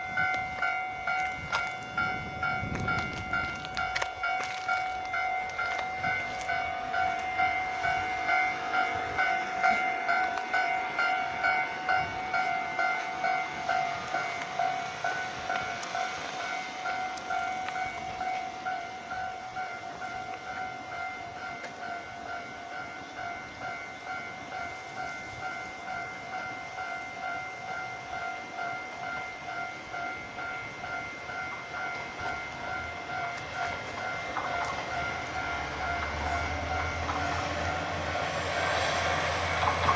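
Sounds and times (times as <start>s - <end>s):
level-crossing warning bell: 0.0s - 39.9s
train passing: 0.0s - 39.9s.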